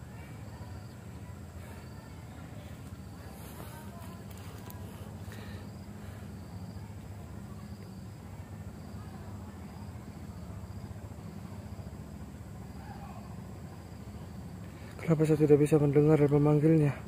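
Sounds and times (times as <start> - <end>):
insects chirping: 0.0 - 17.0
low steady rumble: 0.0 - 17.0.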